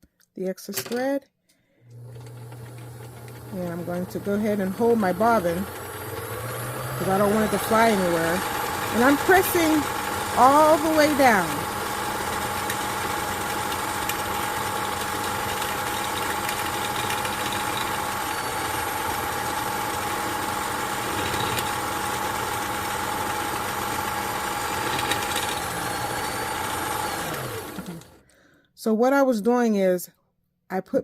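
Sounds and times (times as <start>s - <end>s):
sewing machine motor whine: 1.8s - 28.2s.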